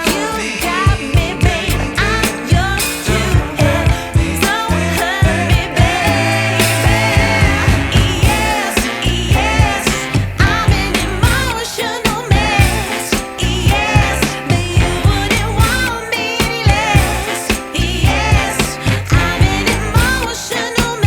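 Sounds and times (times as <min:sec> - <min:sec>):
pop song with singing and drums: 0:00.0 - 0:21.0.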